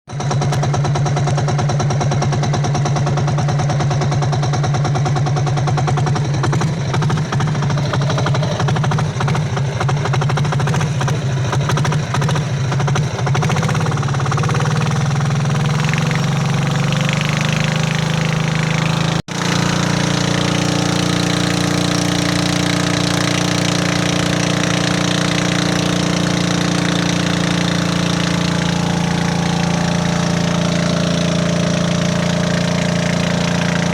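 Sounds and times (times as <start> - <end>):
diesel engine rattling chug: 0.1 - 33.9.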